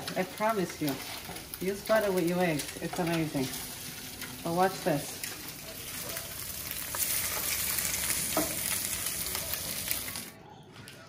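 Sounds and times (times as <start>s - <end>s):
eggs sizzling in a pan: 0.0s - 10.4s.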